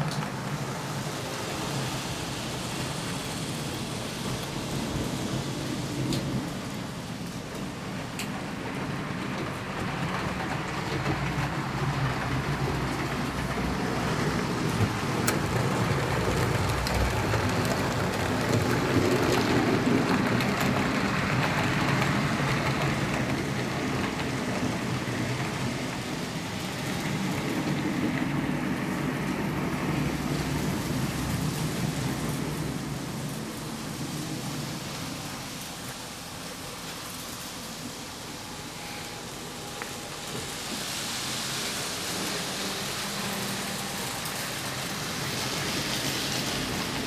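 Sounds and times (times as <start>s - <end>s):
model train rolling rattle: 0.0s - 47.0s.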